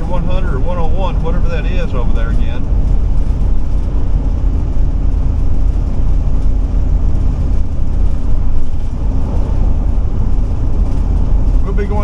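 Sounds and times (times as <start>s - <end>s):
motorhome engine rumbling: 0.0s - 12.0s
tyre and road noise: 0.0s - 12.0s.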